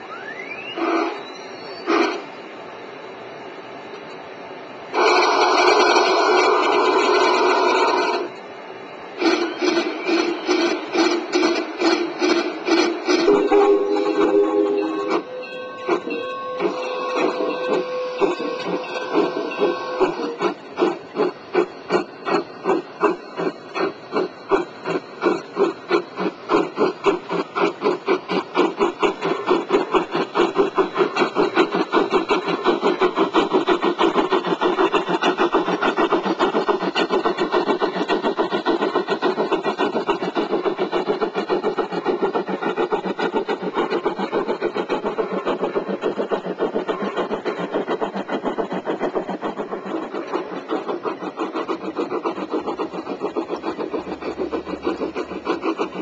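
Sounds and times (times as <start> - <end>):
model train rhythmic beat: 0.0 - 56.0.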